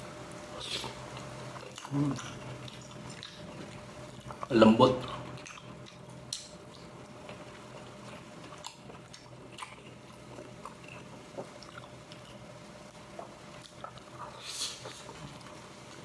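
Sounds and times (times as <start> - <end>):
person chewing food: 0.6 - 16.0.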